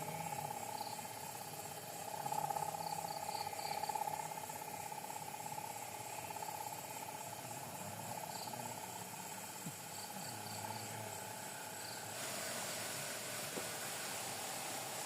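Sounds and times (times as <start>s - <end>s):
faint hiss: 0.0s - 15.0s
high insect chirps: 0.0s - 15.0s
insects trilling: 0.0s - 15.0s.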